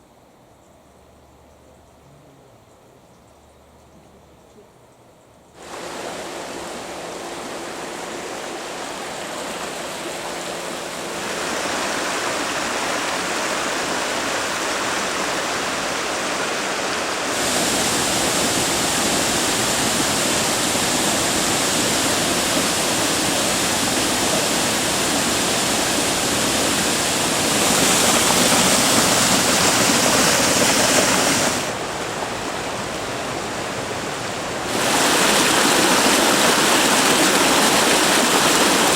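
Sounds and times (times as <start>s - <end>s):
waterfall and stream rushing: 5.6s - 38.9s.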